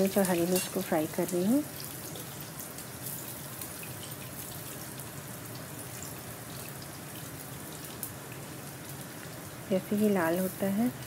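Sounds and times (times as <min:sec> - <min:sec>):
chilies sizzling in hot oil: 0:00.0 - 0:11.0.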